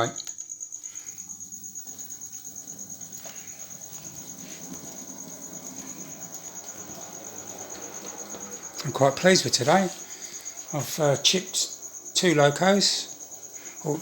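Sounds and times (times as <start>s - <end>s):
model train motor humming: 1.2s - 14.0s.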